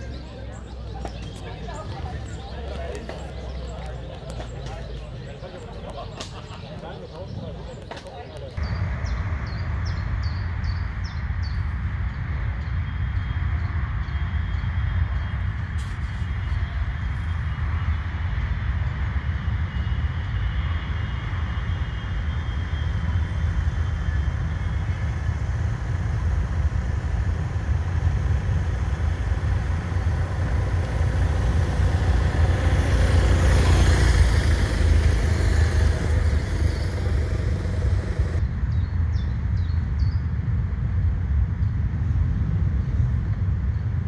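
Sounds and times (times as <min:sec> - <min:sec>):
motorcycle road noise rumble: 0:00.0 - 0:44.0.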